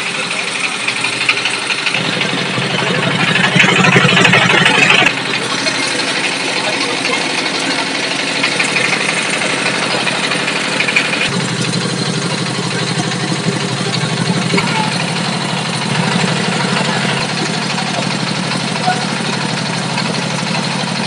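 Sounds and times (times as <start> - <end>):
small stationary engine running: 0.0 - 21.0.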